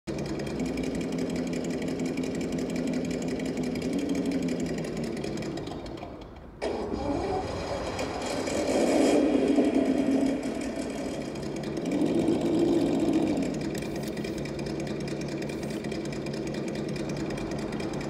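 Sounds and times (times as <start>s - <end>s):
electric motor and gearbox whining: 0.1s - 18.0s.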